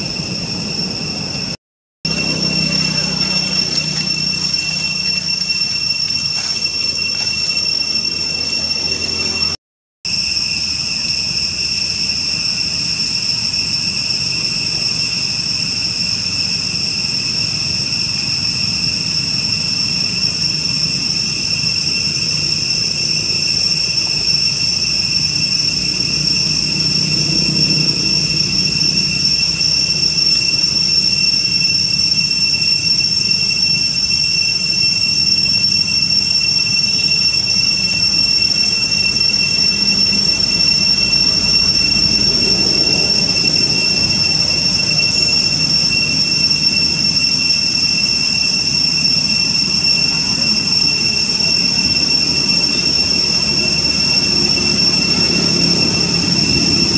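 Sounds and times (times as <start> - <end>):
cicadas droning: 0.0 - 56.9.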